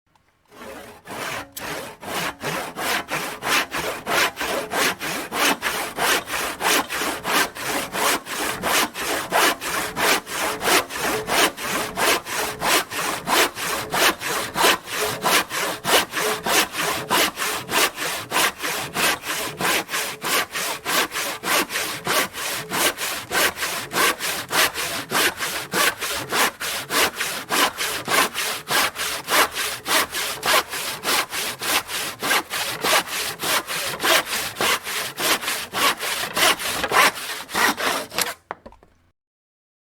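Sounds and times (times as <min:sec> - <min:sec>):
hand saw cutting wood: 0:00.5 - 0:38.9.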